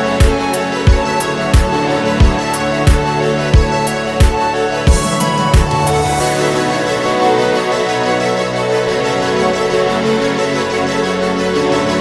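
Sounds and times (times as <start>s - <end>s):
ambient music with layered tones: 0.0s - 12.0s.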